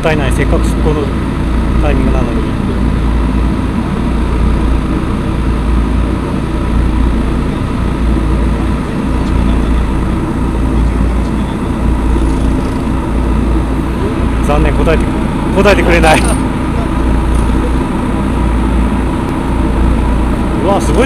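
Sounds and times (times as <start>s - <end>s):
ship engines droning: 0.0s - 21.0s.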